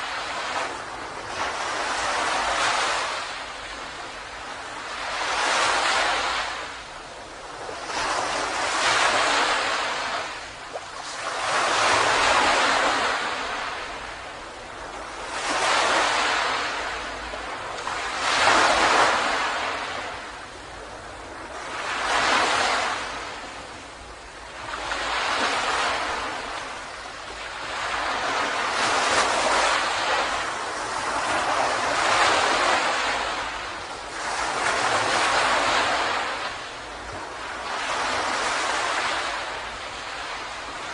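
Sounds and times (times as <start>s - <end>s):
ocean waves on a beach: 0.0s - 40.9s.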